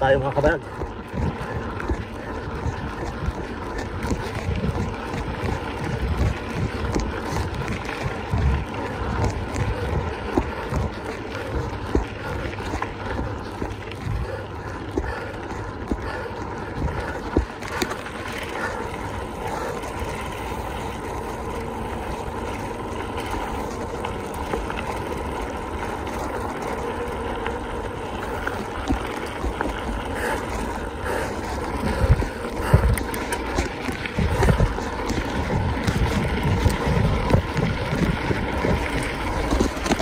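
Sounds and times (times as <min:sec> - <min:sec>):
bike tyres rolling: 0:00.0 - 0:40.0.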